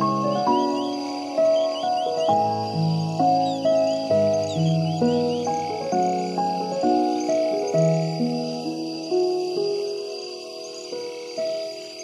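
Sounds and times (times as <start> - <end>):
slow melody of held notes: 0.0 - 12.0.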